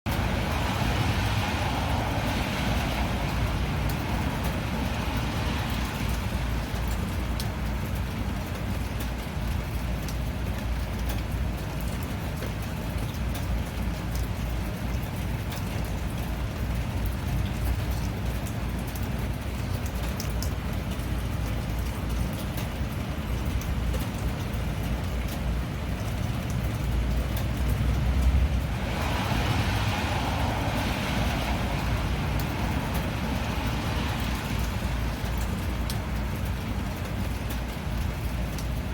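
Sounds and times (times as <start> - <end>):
raindrop ticks: 0.1 - 38.9
steady rain hiss: 0.1 - 38.9.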